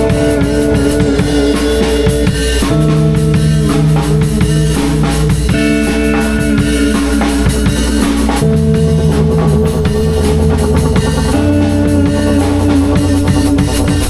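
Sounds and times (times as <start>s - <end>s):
bass notes: 0.0s - 14.0s
drum kit beat: 0.0s - 14.0s
sustained guitar notes: 0.0s - 14.0s.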